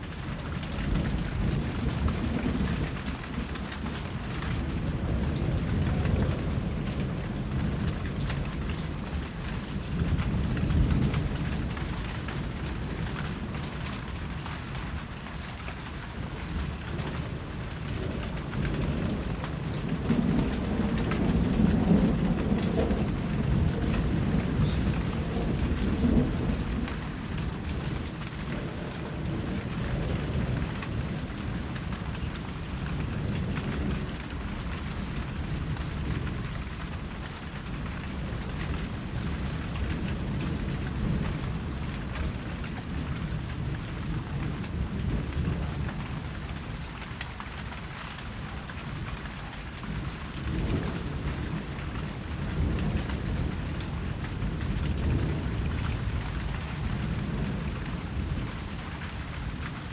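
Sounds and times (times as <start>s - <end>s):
steady rain: 0.0s - 59.9s
thunder rolling: 0.3s - 14.1s, 16.2s - 46.8s, 49.9s - 59.7s.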